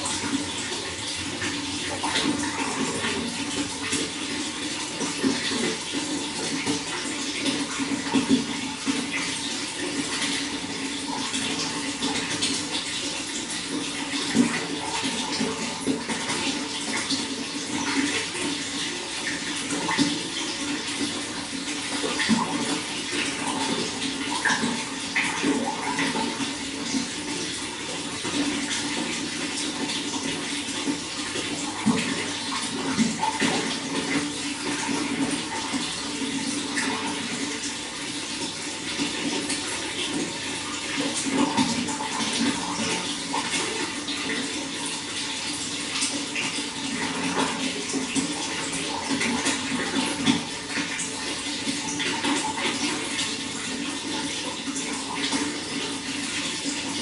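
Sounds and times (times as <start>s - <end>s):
running water splashing: 0.0s - 57.0s.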